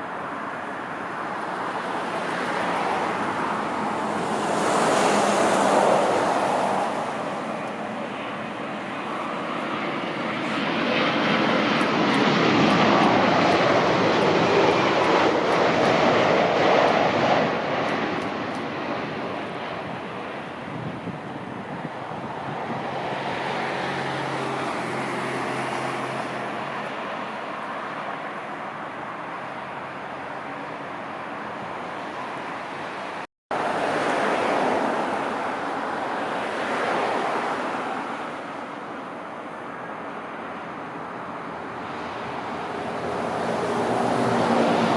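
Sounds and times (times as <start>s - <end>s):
jet airliner roar: 0.0s - 44.9s
steady rushing noise: 0.0s - 44.9s.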